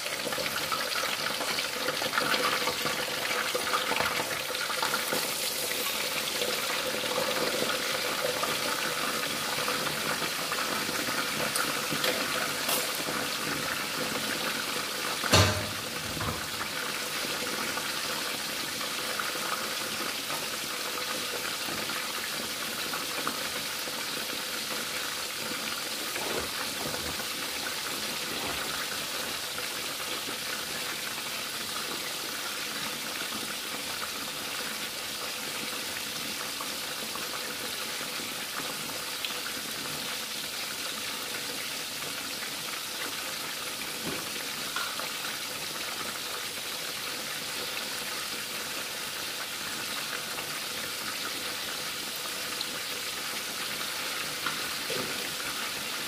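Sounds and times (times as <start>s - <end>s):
fish sizzling in hot oil: 0.0s - 56.0s.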